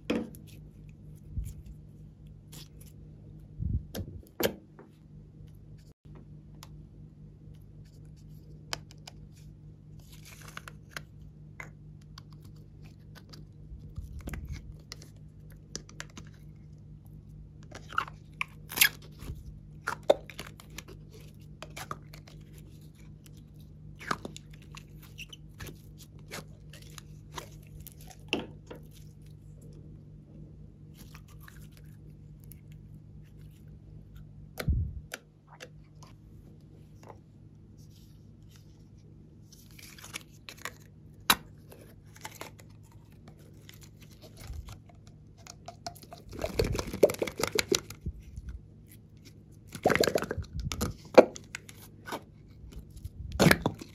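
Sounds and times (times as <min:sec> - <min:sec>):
faint low hum: 0:00.0 - 0:53.9.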